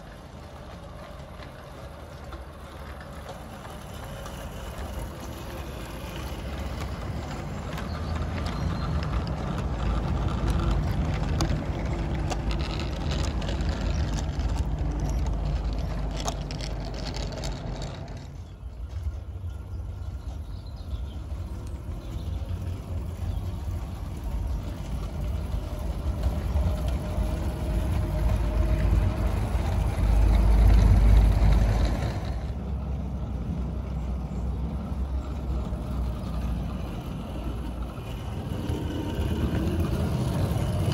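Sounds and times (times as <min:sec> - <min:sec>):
model train wheels clicking on track: 0:00.0 - 0:40.9
low rumble: 0:03.5 - 0:40.9.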